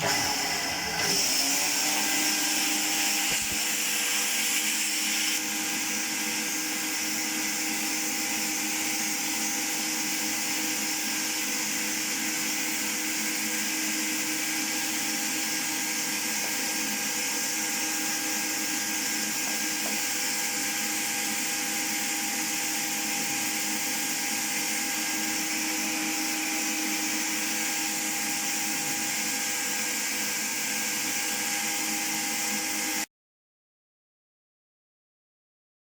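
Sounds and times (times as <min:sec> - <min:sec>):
vacuum cleaner blowing air: 0:00.0 - 0:33.1.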